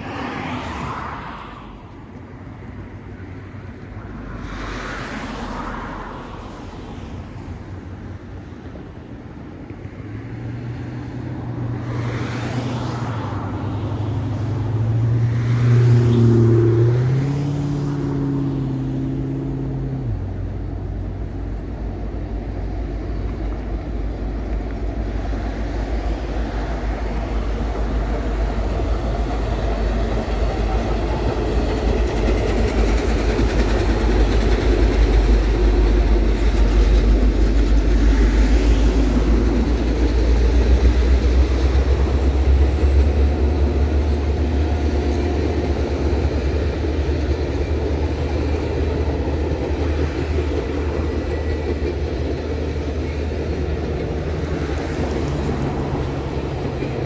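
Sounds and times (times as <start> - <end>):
locomotive and wheels rumbling: 0.0 - 57.0.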